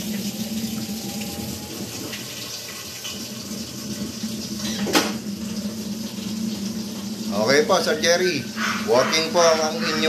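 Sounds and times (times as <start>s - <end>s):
water rushing into drum: 0.0s - 9.4s
washing machine humming: 0.0s - 10.0s.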